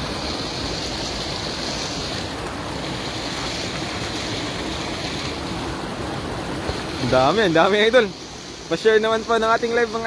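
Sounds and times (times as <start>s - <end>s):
stream water rushing and splashing: 0.0s - 10.0s.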